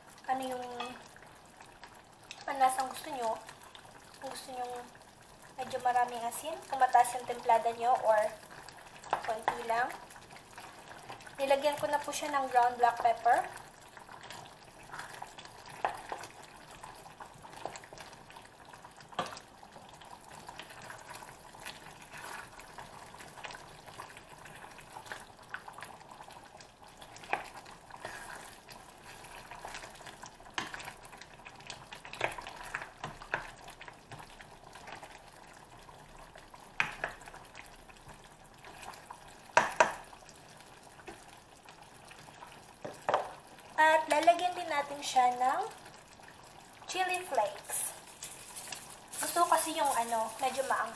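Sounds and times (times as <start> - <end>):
stew simmering: 0.0 - 50.9.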